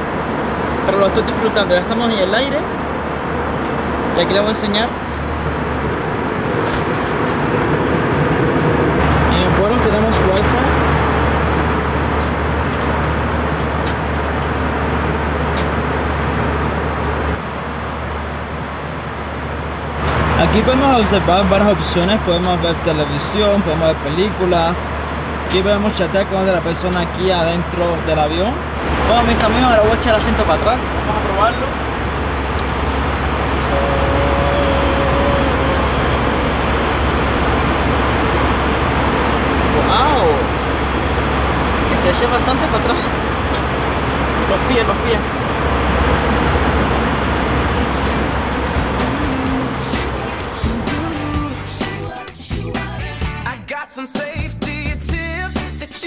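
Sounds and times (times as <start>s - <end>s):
faint steady whine: 0.0s - 52.2s
airplane cabin engine drone: 0.0s - 53.7s.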